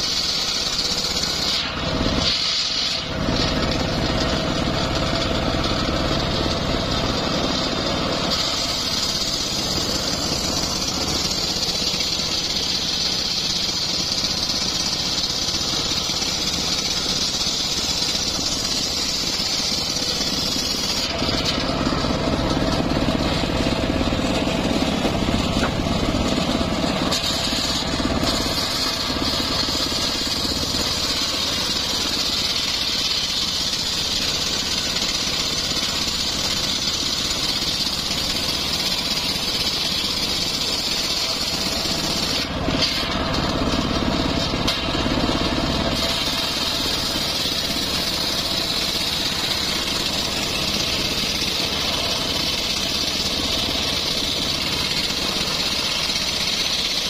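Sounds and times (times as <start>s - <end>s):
circular saw blade cutting wood: 0.0s - 57.0s
engine running: 0.0s - 57.0s.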